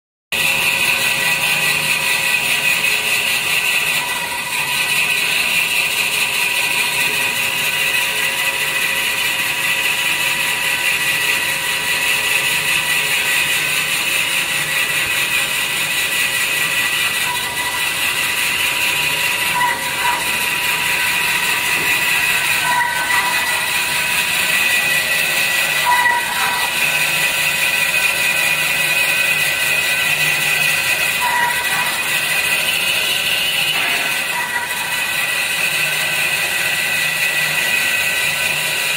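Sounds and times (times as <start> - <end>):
band saw whining: 0.4 - 38.9.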